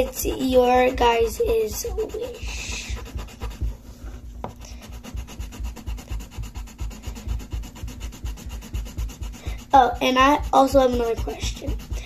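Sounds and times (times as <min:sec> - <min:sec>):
pencil rubbing on paper: 0:00.0 - 0:12.0.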